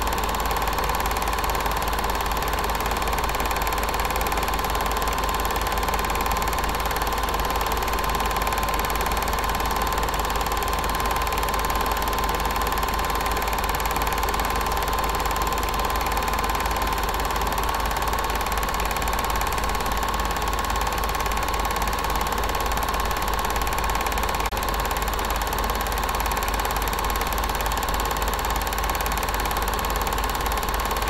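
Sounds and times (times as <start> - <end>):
film projector whirring: 0.0 - 31.0.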